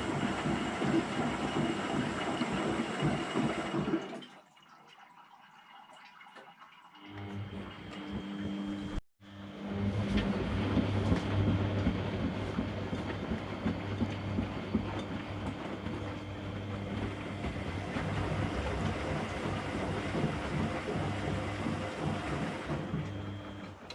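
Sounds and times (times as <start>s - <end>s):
washing machine running: 0.0s - 23.9s.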